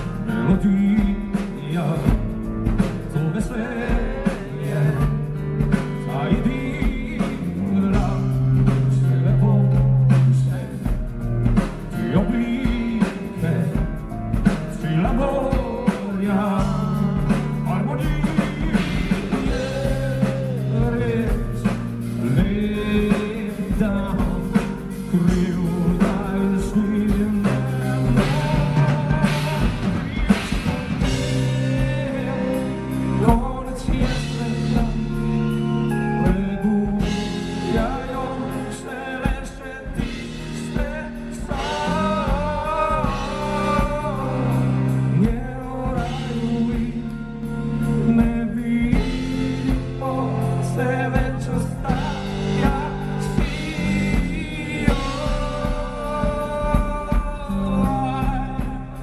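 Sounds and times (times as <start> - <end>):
drum kit: 0.0 - 59.0
man singing: 0.0 - 59.0.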